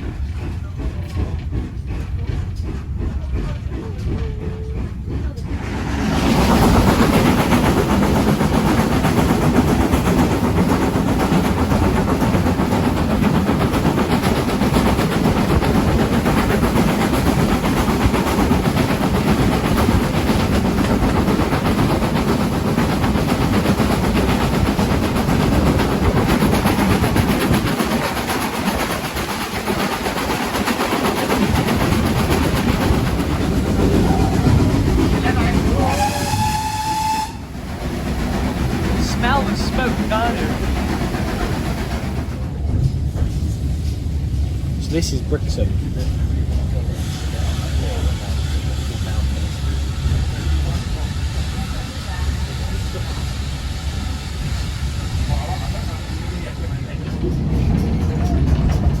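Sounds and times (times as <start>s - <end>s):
train coaches rumbling on rails: 0.0s - 59.0s.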